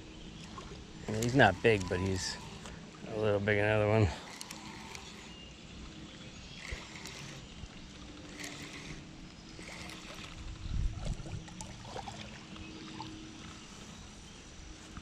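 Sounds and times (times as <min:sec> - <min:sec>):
light wind: 0:00.0 - 0:15.0
water: 0:00.0 - 0:15.0.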